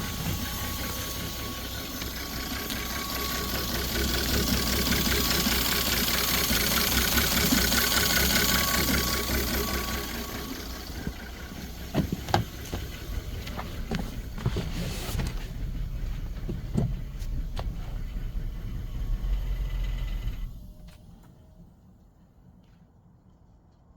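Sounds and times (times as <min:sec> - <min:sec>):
engine running with sharp knocks: 0:00.0 - 0:21.4.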